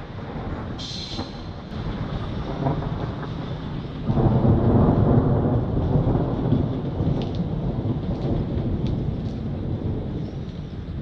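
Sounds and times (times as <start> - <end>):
rolling thunder: 0.0 - 11.0.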